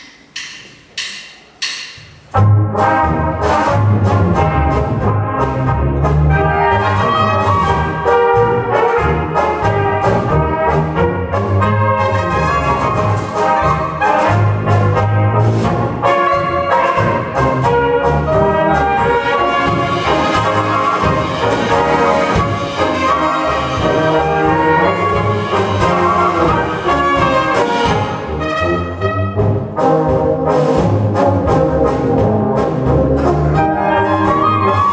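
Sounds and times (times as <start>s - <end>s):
brass band playing a polka: 2.3s - 34.9s.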